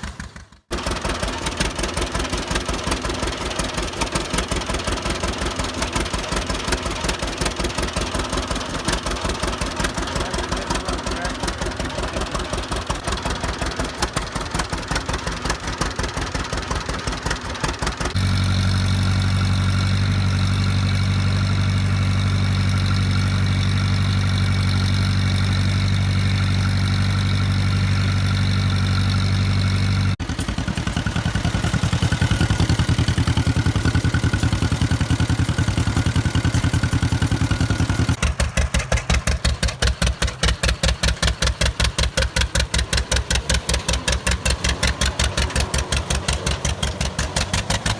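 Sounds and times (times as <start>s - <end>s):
old tractor engine idling: 0.0s - 47.9s.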